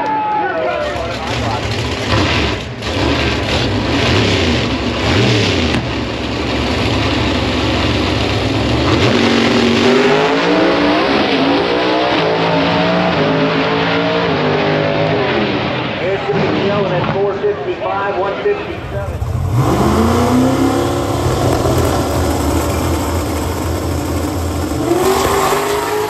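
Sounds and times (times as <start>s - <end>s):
drag race car engine revving: 1.0s - 17.5s, 18.2s - 26.0s.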